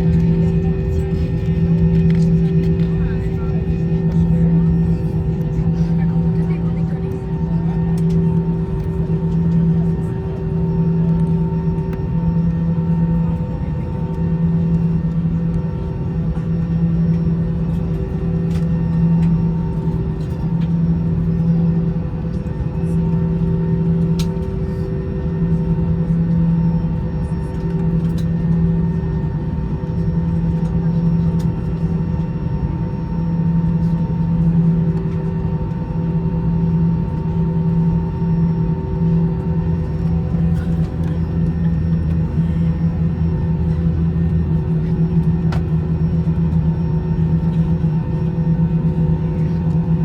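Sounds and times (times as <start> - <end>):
jet engine cabin drone: 0.0 - 50.0.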